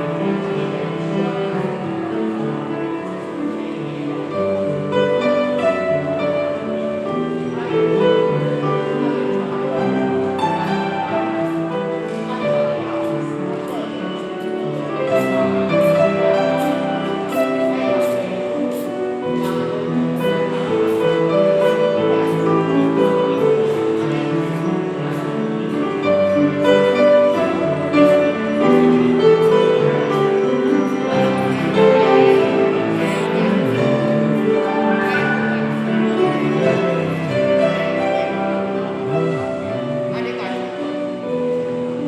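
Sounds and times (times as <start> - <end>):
piano melody over chords: 0.0 - 42.0.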